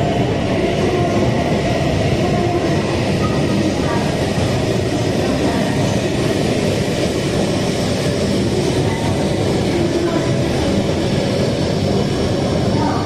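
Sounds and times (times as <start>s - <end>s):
train pulling into station: 0.0s - 13.0s.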